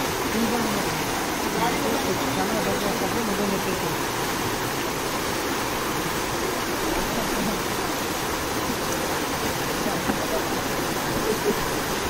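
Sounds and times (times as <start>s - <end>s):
floodwater rushing through a drain: 0.0s - 12.0s.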